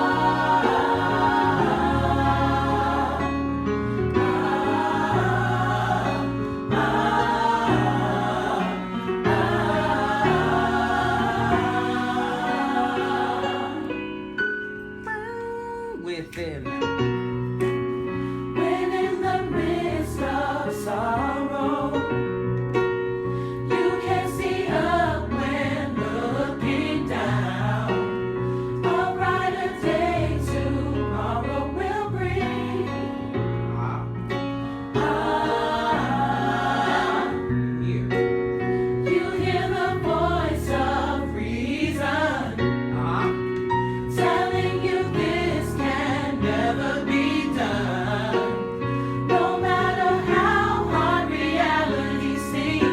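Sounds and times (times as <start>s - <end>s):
gospel choir singing: 0.0s - 14.8s, 18.0s - 22.6s, 23.3s - 52.9s.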